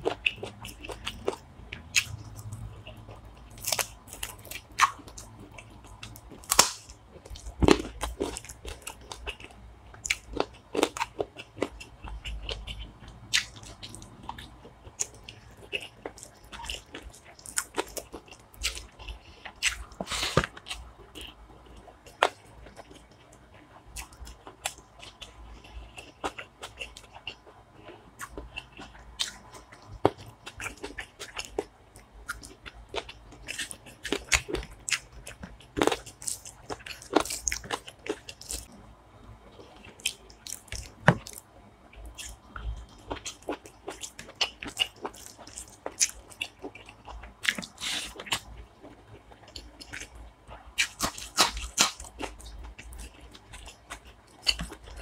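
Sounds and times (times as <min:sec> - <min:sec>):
man chewing and crunching food: 0:00.0 - 0:55.0.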